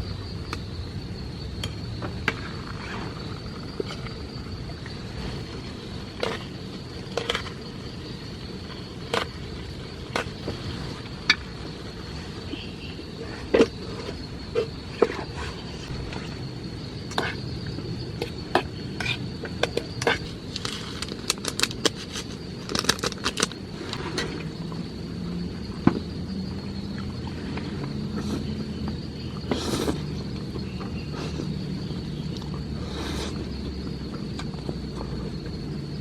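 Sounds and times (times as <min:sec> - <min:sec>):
high-pitched insect drone: 0:00.0 - 0:34.1
low steady hum: 0:00.0 - 0:36.0.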